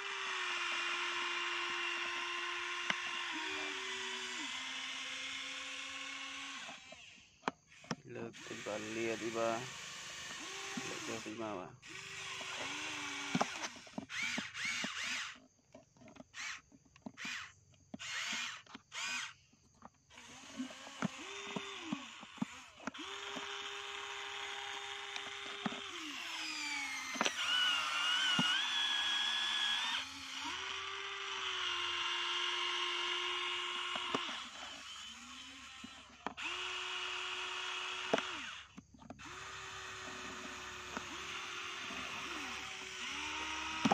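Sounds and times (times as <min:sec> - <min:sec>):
toy excavator motors whining: 0:00.0 - 0:43.9.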